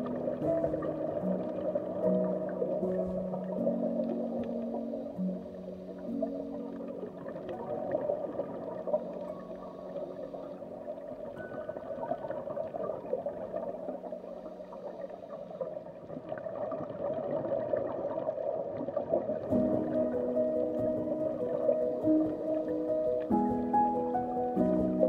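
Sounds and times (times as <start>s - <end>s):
muffled underwater water churning: 0.0s - 25.0s.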